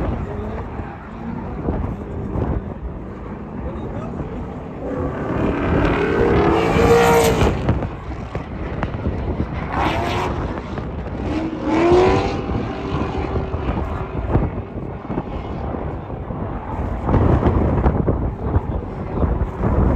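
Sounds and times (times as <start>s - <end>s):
car engines revving: 0.0s - 19.9s
wind buffeting microphone: 0.0s - 19.9s.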